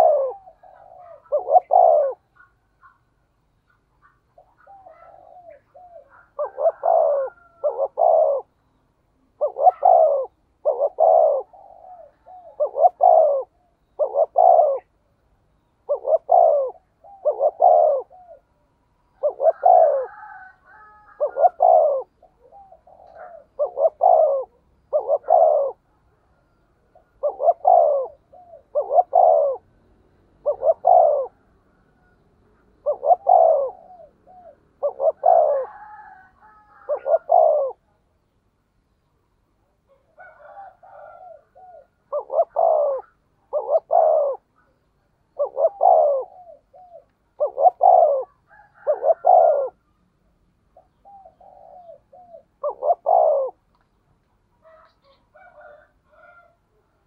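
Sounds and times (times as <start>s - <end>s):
dove cooing: 0.0s - 38.0s, 39.9s - 49.9s, 50.7s - 53.9s, 54.6s - 57.0s.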